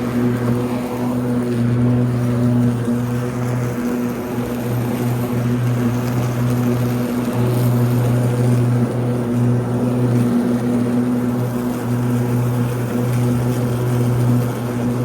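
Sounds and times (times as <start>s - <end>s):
electric riding mower humming: 0.0s - 15.0s.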